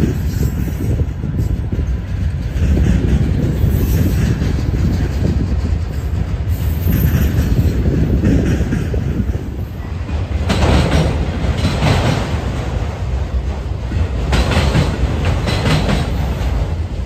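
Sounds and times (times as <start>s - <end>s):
steel wheels rumbling on rails: 0.0s - 17.0s.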